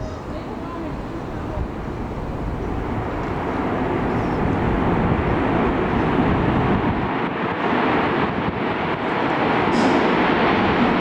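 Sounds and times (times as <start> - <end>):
aircraft engine rush: 0.0 - 11.0
wind buffeting microphone: 0.0 - 11.0.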